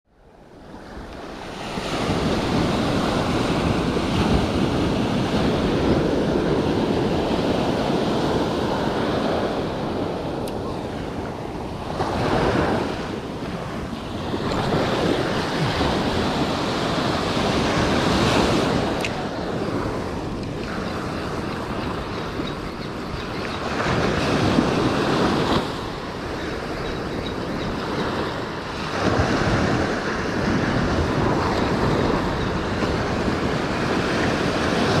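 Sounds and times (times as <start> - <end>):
surf breaking on a beach: 0.2 - 35.0
wind on microphone: 0.2 - 35.0.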